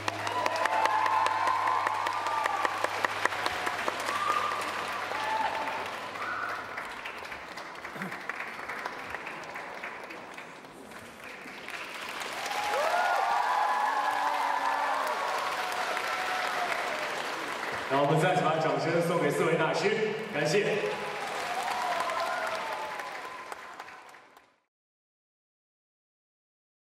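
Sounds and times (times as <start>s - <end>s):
audience applauding: 0.0s - 24.6s.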